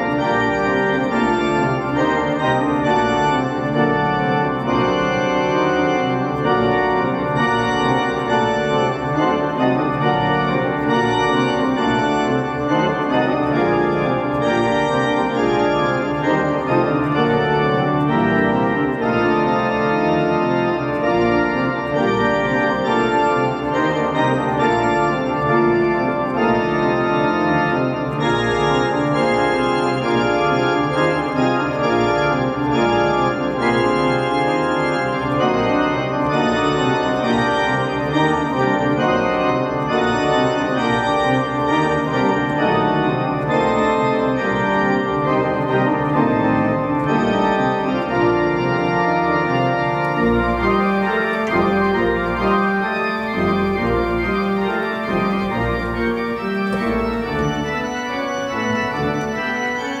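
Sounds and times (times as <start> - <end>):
church organ chords: 0.0 - 60.0
deep organ pedal bass notes: 0.0 - 60.0.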